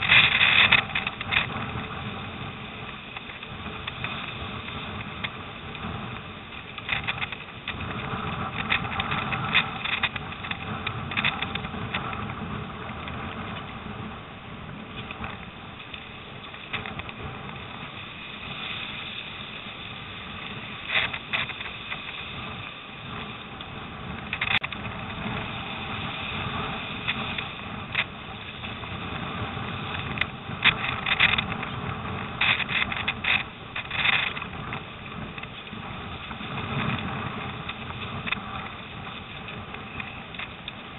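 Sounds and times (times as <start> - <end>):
waves splashing against hull: 0.0 - 40.9
wind rumbling on microphone: 0.0 - 40.9.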